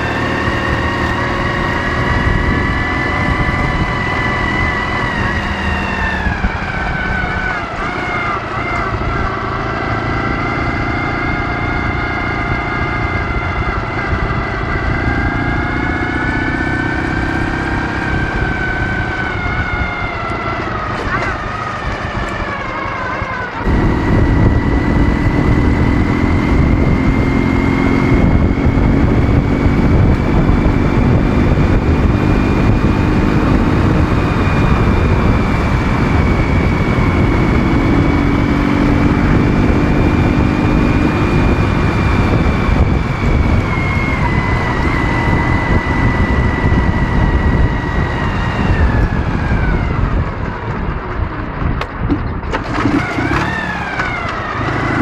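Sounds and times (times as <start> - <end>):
motorcycle engine: 0.0 - 55.0
wind noise: 0.0 - 55.0.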